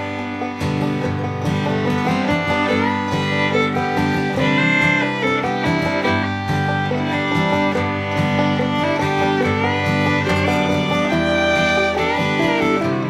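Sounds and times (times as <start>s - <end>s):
country music with fiddle and guitar: 0.0s - 13.0s.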